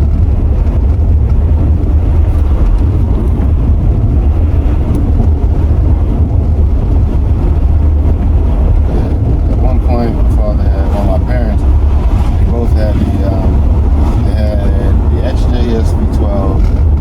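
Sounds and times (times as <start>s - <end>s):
car engine low rumble: 0.0s - 17.0s
road and wind noise: 0.0s - 17.0s.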